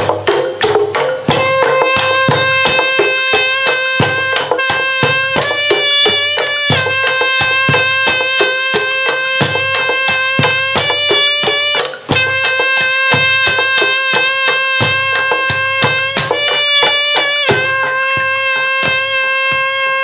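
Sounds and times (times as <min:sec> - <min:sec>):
percussion ensemble tapping: 0:00.0 - 0:20.0.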